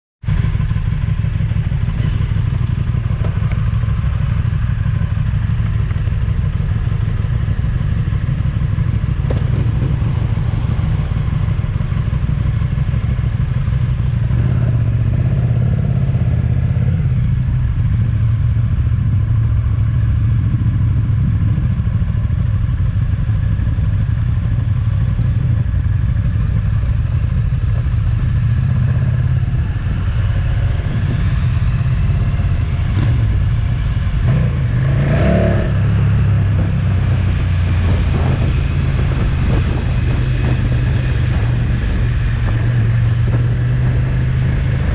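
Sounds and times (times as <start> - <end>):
motorcycle engine rumbling: 0.2 - 44.9.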